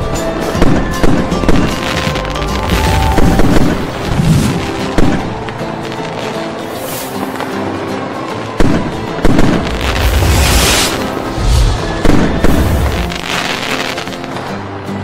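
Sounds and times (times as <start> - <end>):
fireworks crackling fizz: 0.0 - 14.8
background music: 0.0 - 15.0
fireworks booming: 0.6 - 7.6, 8.5 - 14.4.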